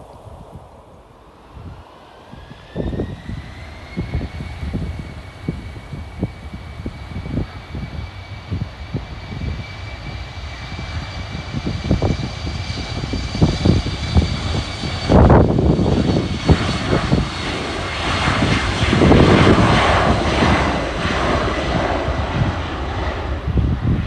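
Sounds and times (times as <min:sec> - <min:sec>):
aircraft engine noise: 0:00.0 - 0:24.0
jet engine high whine: 0:00.0 - 0:24.0.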